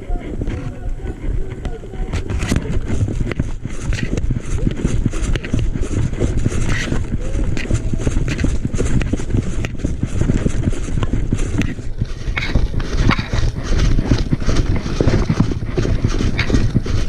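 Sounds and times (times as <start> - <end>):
footsteps: 0.0 - 17.0
gear rustling: 0.0 - 17.0.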